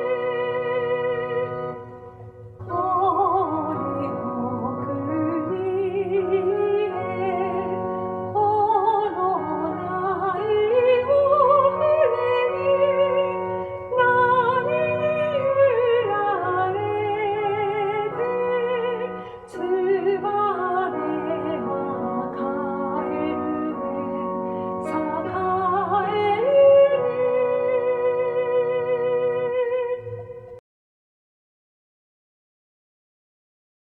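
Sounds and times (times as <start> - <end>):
sustained instrumental accompaniment: 0.0 - 30.6
woman singing with vibrato: 0.0 - 30.6.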